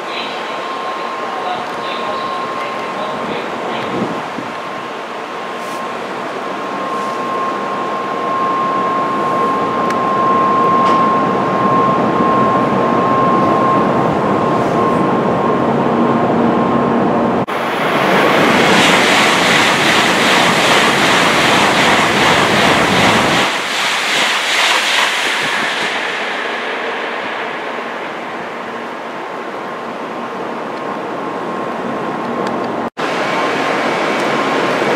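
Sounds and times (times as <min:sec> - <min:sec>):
train passing at speed: 0:00.0 - 0:34.9
train rumble with electric whine: 0:00.0 - 0:34.9.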